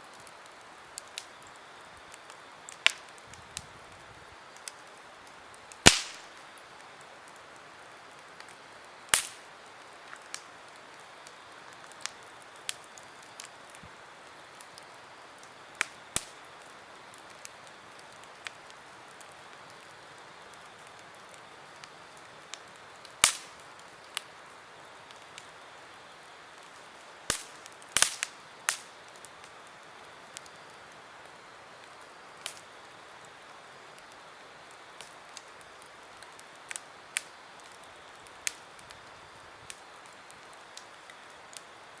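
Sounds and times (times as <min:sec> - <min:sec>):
campfire crackling and popping: 0:00.0 - 0:42.0
faint hiss of burning fire: 0:00.0 - 0:42.0.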